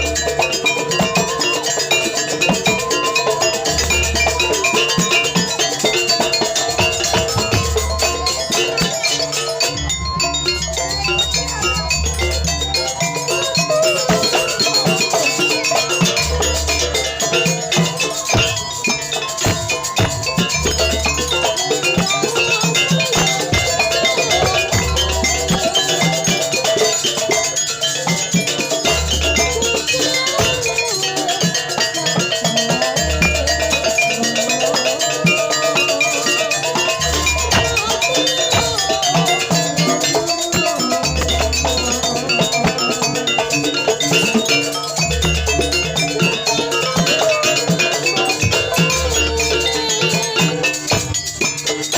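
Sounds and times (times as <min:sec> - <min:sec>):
drumming: 0:00.0 - 0:51.9
metallophone notes: 0:00.0 - 0:51.9.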